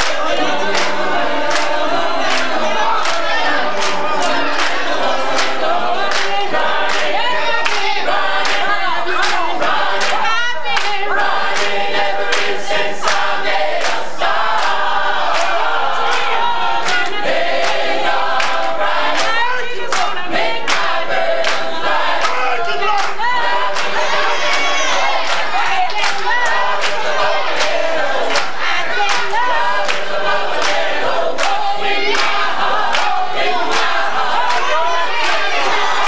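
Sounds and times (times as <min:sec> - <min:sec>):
gospel choir singing: 0:00.0 - 0:36.0
rhythmic hand claps: 0:00.0 - 0:36.0.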